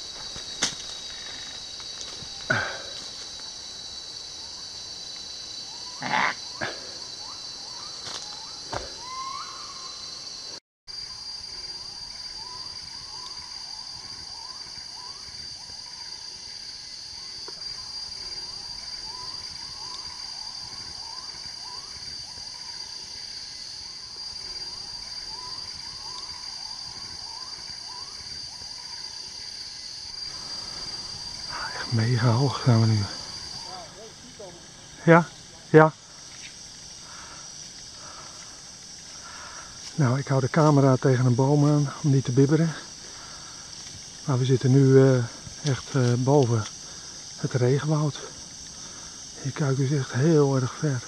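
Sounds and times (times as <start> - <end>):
high-pitched insect drone: 0.0 - 51.0.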